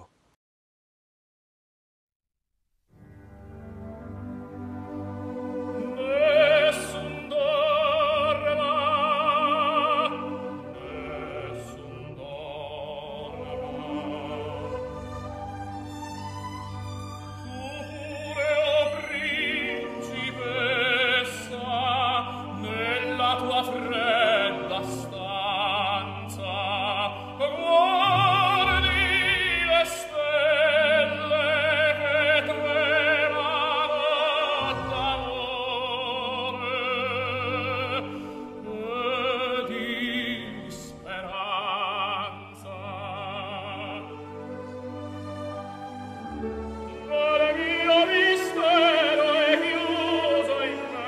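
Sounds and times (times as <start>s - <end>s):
orchestral accompaniment: 3.0s - 51.0s
operatic singing with vibrato: 3.7s - 51.0s.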